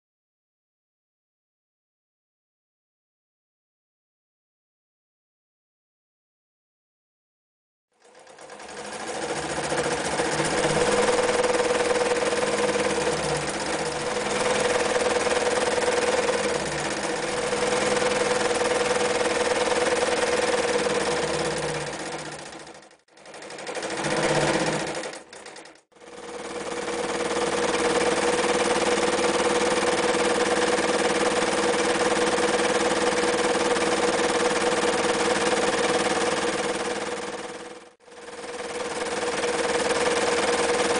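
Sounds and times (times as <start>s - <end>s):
electric sewing machine running: 8.0s - 40.9s.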